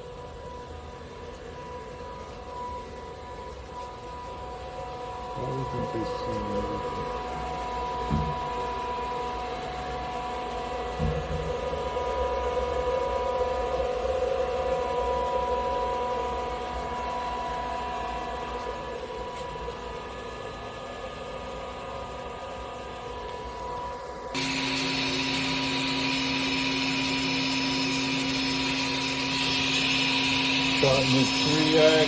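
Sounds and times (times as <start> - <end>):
machine electrical hum and whine: 0.0 - 32.0.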